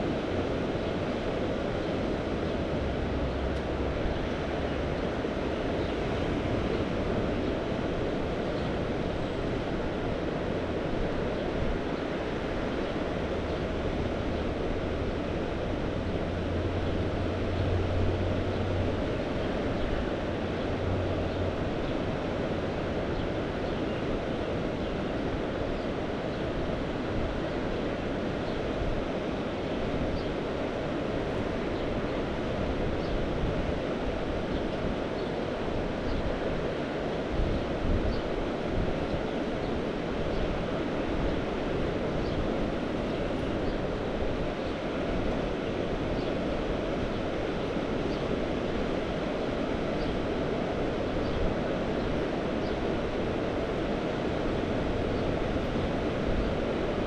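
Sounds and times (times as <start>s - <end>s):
sea surf washing: 0.0s - 57.0s
wind rumbling on microphone: 0.0s - 57.0s.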